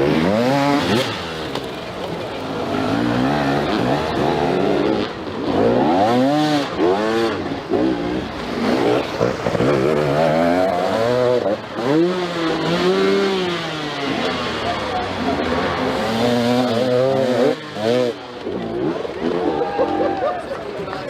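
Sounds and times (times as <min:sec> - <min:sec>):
dirt bike engine revving: 0:00.0 - 0:20.2.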